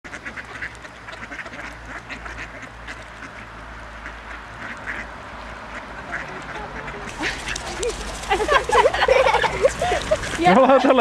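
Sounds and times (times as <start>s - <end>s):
ducks quacking: 0.1s - 11.0s.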